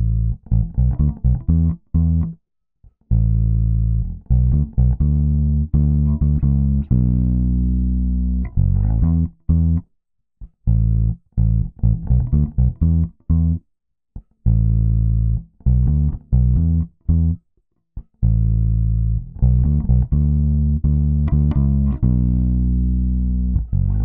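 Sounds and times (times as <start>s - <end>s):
electric bass guitar riff: 0.0s - 2.4s, 3.1s - 9.8s, 10.6s - 13.6s, 14.4s - 17.4s, 18.0s - 24.0s.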